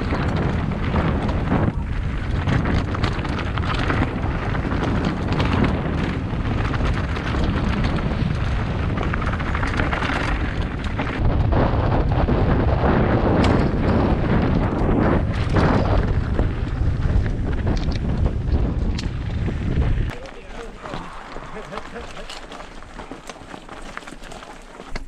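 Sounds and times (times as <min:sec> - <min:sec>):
wind buffeting microphone: 0:00.0 - 0:24.4
bike knocks and rattles: 0:00.0 - 0:25.0
bike rumbling on rough trail: 0:00.0 - 0:25.0.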